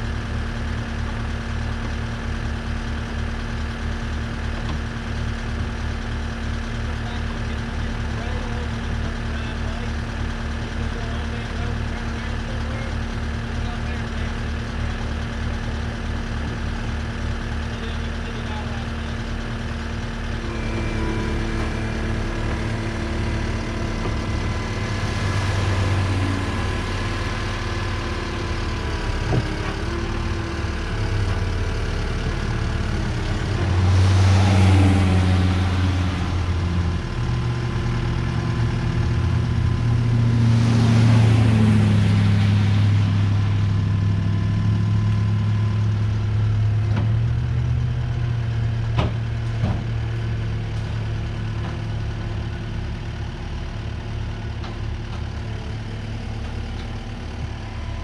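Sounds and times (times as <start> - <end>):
diesel engine under throttle: 0.0 - 58.0.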